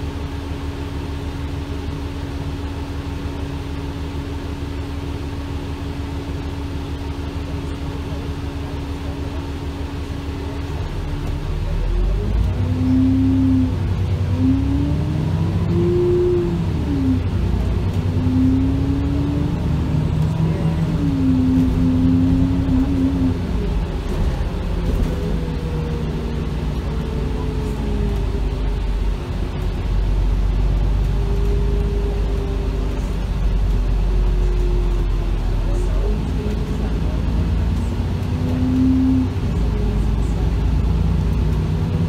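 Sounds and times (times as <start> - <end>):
bus engine rumble and whine: 0.0 - 42.0.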